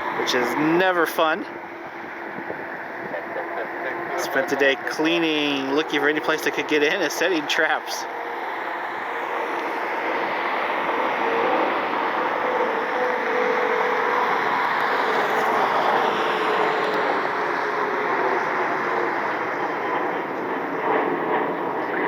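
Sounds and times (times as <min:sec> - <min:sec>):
jet engines rushing: 0:00.0 - 0:22.0.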